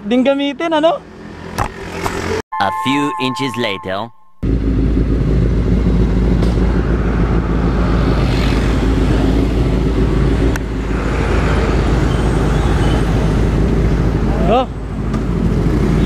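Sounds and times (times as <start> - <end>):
traffic passing: 0.9 - 2.4, 4.4 - 16.0.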